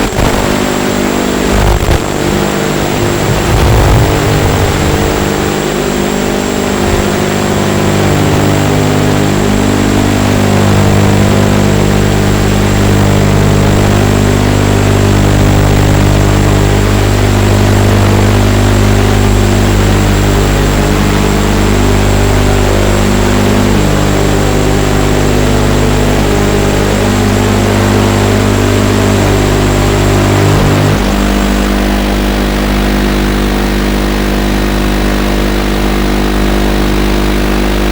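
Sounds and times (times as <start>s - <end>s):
quadcopter motors whining: 0.0s - 31.7s.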